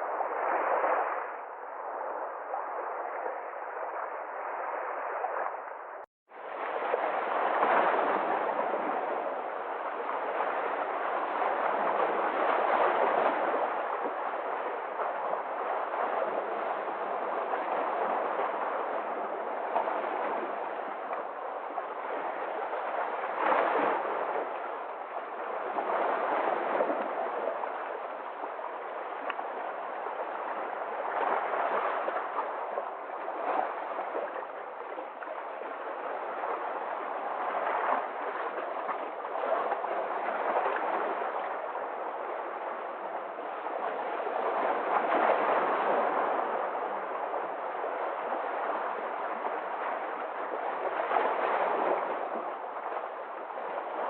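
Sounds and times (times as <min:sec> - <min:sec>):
sea waves surf: 0:00.0 - 0:54.0.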